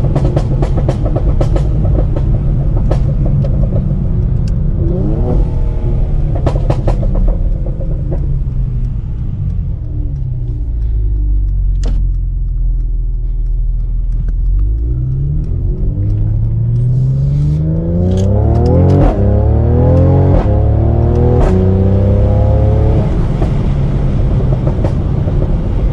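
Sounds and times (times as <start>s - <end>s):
car exhaust engine: 0.0s - 25.9s
exhaust pops and crackles: 0.0s - 25.9s.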